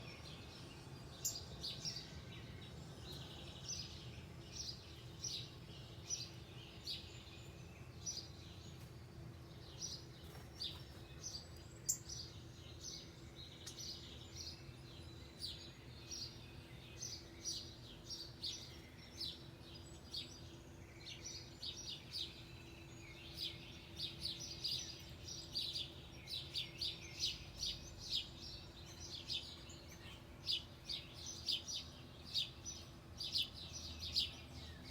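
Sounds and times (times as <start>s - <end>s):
faint steady hum: 0.0s - 34.9s
songbirds chirping: 0.0s - 34.9s.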